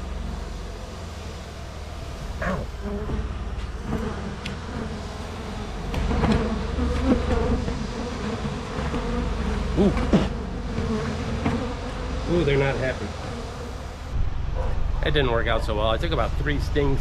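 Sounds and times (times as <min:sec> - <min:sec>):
bees flying past microphone: 0:00.0 - 0:14.2
bee swarm buzzing: 0:00.0 - 0:15.3.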